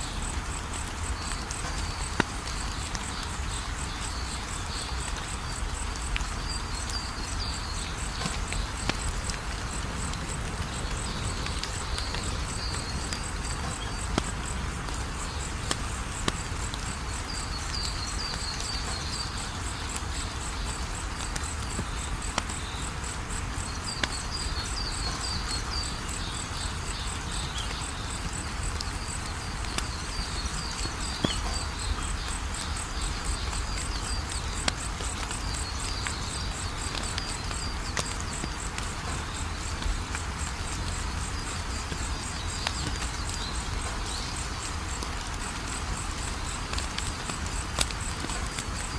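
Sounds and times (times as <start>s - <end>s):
crickets chirping: 0.0s - 48.9s
wood fire crackling: 0.1s - 48.9s.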